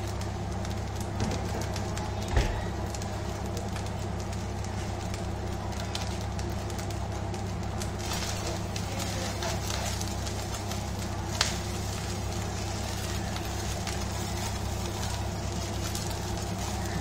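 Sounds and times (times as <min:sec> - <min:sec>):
rice sizzling in a wok: 0:00.0 - 0:17.0.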